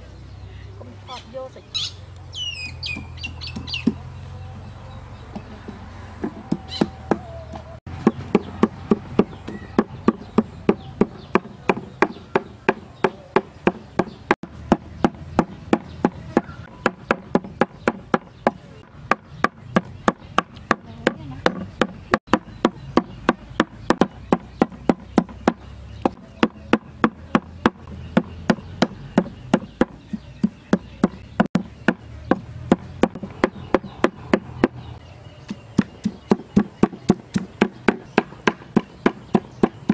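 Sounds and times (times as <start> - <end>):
cleaver chopping meat on wood: 5.4 - 34.8, 35.4 - 39.9.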